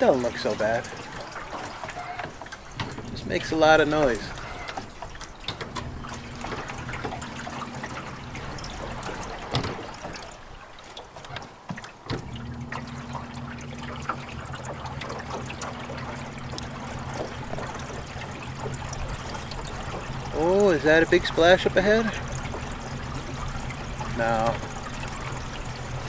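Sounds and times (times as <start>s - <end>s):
boat motor humming: 0.0s - 26.0s
water lapping at hull: 0.0s - 26.0s.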